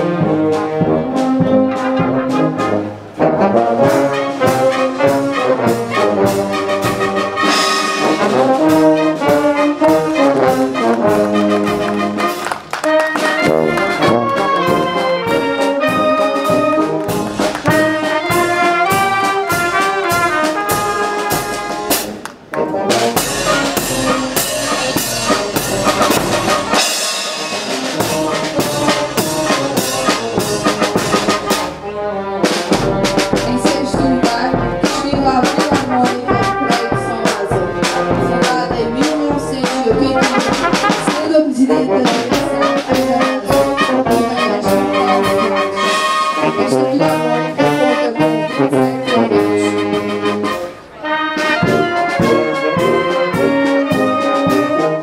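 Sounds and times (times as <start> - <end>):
cymbals and drums: 0.0 - 22.2, 22.8 - 55.0
wind band playing a march: 0.0 - 55.0.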